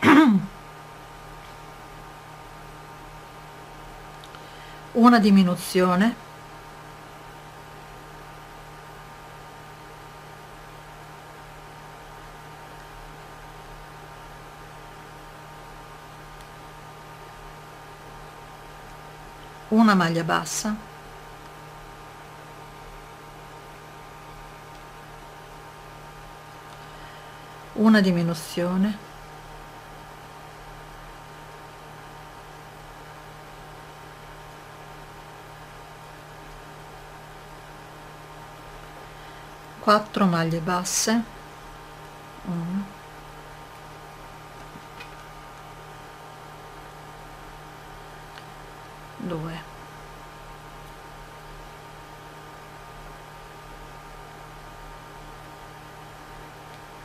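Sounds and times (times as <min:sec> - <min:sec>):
constant hiss: 0:00.0 - 0:57.0
electrical hum: 0:00.0 - 0:57.0.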